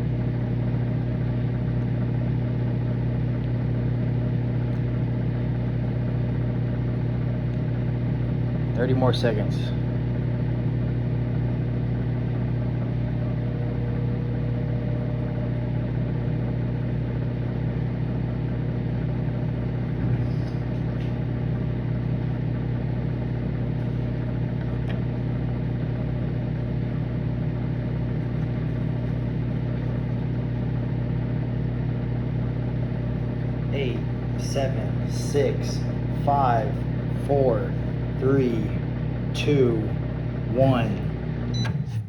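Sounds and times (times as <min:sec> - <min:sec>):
microwave oven humming: 0:00.0 - 0:42.0.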